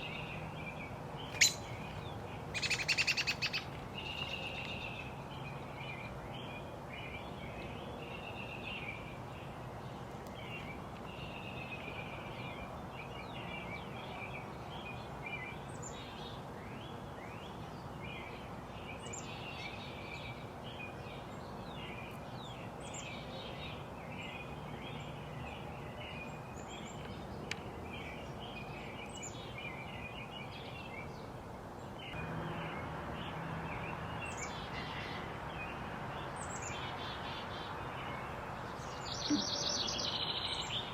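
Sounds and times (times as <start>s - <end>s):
outdoor background hiss: 0.0s - 40.9s
small birds chirping: 0.0s - 40.9s.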